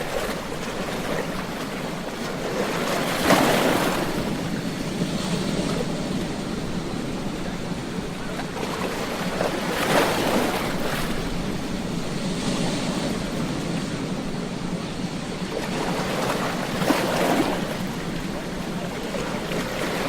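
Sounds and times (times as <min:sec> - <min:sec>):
ocean waves washing on beach: 0:00.0 - 0:20.0.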